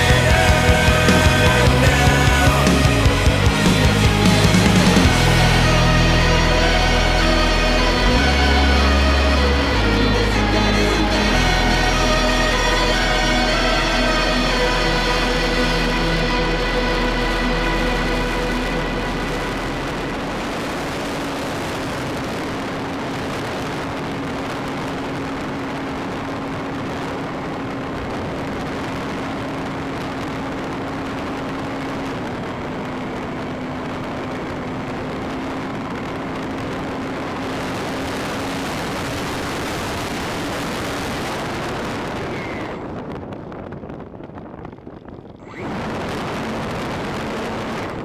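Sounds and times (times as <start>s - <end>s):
motor and propeller hum: 0.0s - 48.0s
wind rushing over camera: 0.0s - 48.0s.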